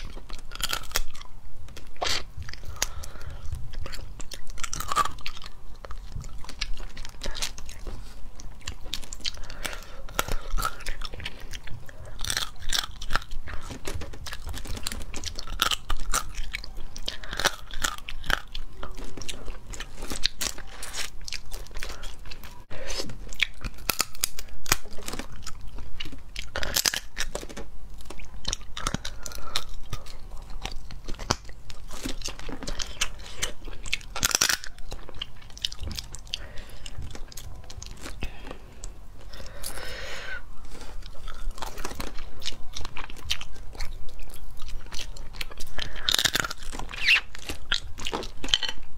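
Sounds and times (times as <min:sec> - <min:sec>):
chewing: 0:00.0 - 0:48.9
crawfish shells cracking: 0:00.0 - 0:48.9.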